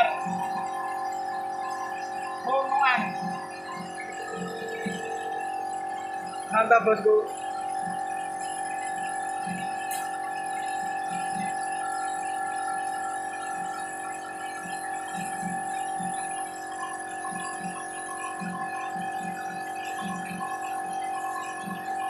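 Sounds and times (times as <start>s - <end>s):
machine electric whine: 0.0s - 22.0s.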